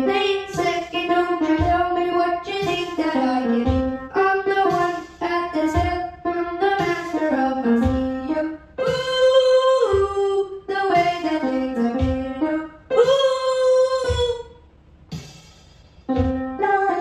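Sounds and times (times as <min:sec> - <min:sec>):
piano: 0:00.0 - 0:14.5, 0:16.0 - 0:17.0
woman singing: 0:00.0 - 0:14.5, 0:16.4 - 0:17.0
programmed backing beat: 0:00.0 - 0:17.0.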